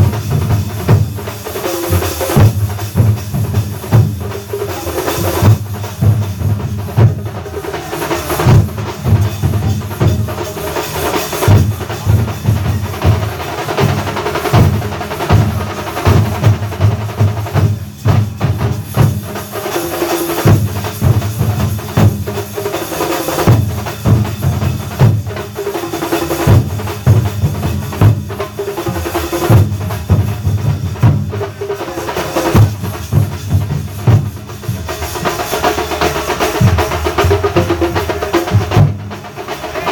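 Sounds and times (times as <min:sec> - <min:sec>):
drum band playing fast rhythm: 0:00.0 - 0:39.9.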